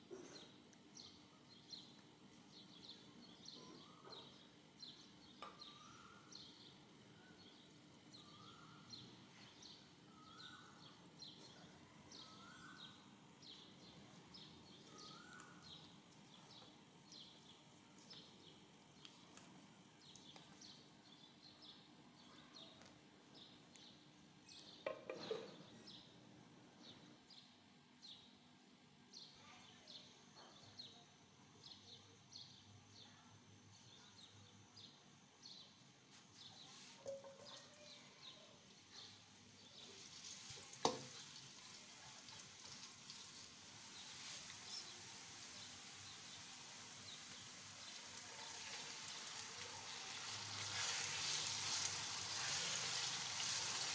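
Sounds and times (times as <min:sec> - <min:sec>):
small birds chirping: 0:00.1 - 0:26.2, 0:29.1 - 0:53.9.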